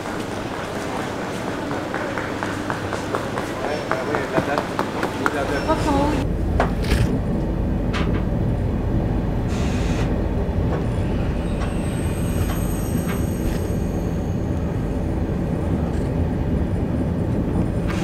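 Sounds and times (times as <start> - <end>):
train rumble from inside carriage: 0.0 - 18.0.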